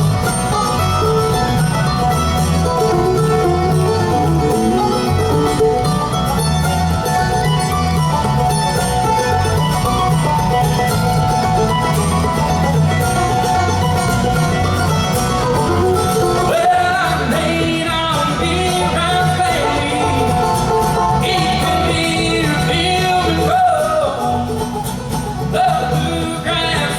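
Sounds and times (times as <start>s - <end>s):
banjo picking: 0.0s - 26.9s
guitar picking: 0.0s - 26.9s
sliding melody line: 0.0s - 26.9s
steady bass line: 0.0s - 26.9s.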